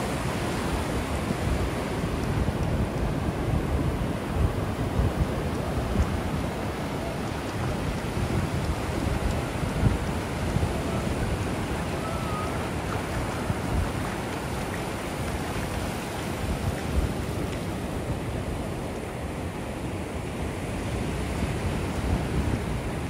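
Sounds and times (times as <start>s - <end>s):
ocean surf washing onto beach: 0.0s - 23.0s
wind buffeting microphone: 0.0s - 23.0s.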